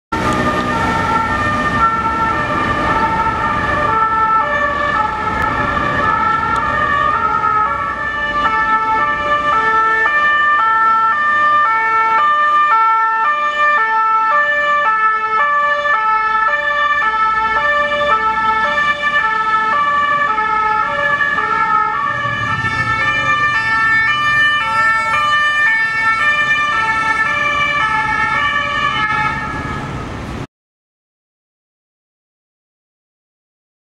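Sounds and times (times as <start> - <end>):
police two-tone siren: 0.1 - 30.1
passing vehicles rumbling: 0.1 - 30.5.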